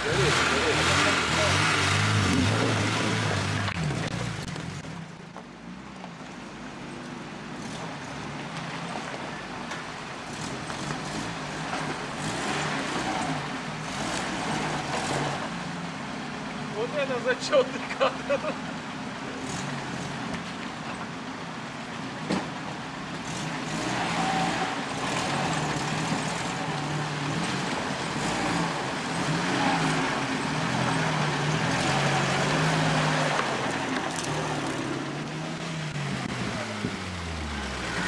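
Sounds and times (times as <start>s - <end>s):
off-road vehicle engine revving: 0.0s - 5.1s, 7.5s - 20.5s, 23.1s - 38.0s
water splashing around wheels: 0.0s - 6.2s, 7.5s - 38.0s.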